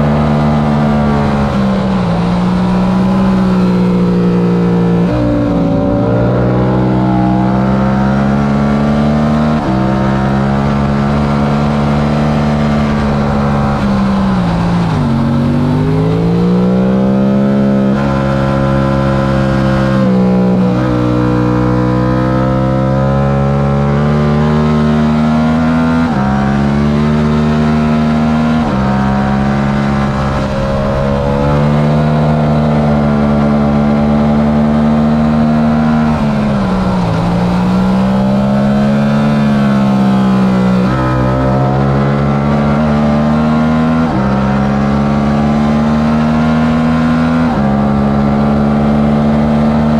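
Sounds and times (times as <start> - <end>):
motorcycle engine revving hard: 0.0 - 49.9.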